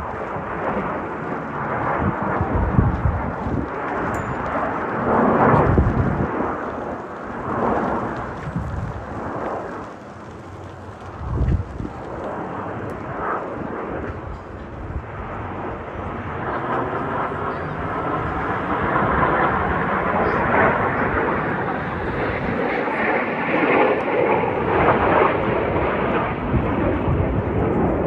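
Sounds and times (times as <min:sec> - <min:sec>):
jets flying past: 0:00.0 - 0:28.0.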